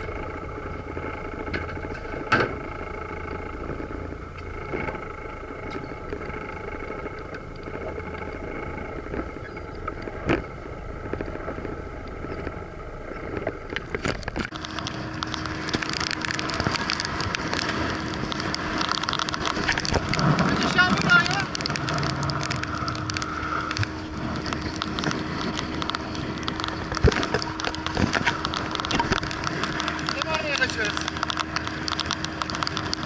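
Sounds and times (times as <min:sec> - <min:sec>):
boat engine running at speed: 0:00.0 - 0:33.0
outboard motor idling: 0:00.0 - 0:33.0.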